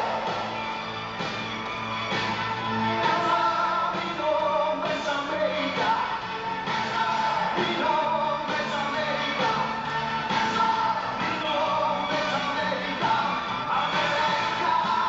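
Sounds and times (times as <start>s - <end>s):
rock-pop music with vocals: 0.0s - 15.0s.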